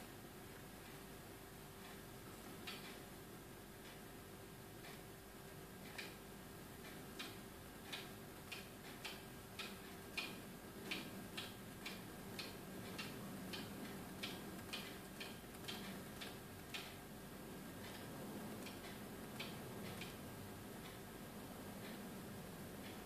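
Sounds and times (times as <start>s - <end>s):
faint motor hum: 0.0s - 23.0s.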